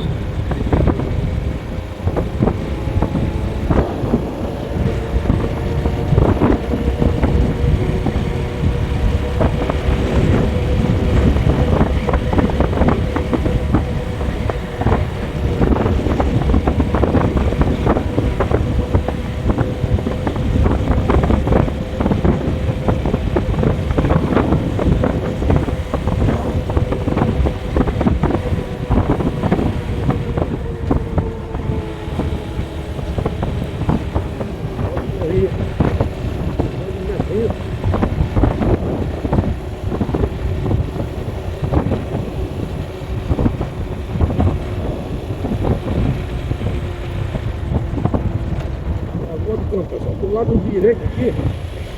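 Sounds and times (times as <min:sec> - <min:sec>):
heavy low rumble: 0:00.0 - 0:51.9
vehicle engine: 0:00.0 - 0:51.9
wind buffeting microphone: 0:00.0 - 0:51.9.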